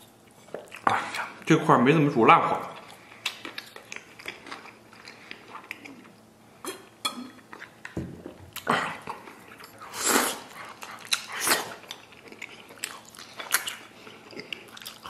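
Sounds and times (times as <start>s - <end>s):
man chewing wet mouth sounds: 0.0s - 1.4s, 2.7s - 15.0s.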